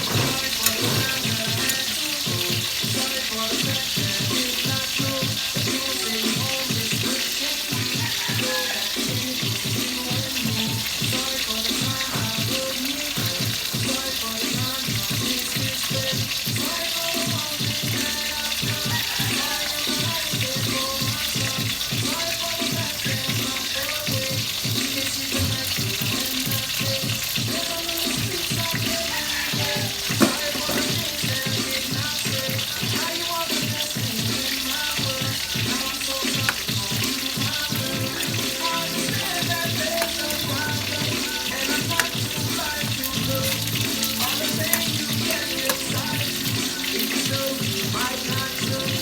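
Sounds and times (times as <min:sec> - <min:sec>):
background music: 0:00.0 - 0:49.0
food sizzling in a pan: 0:00.0 - 0:49.0.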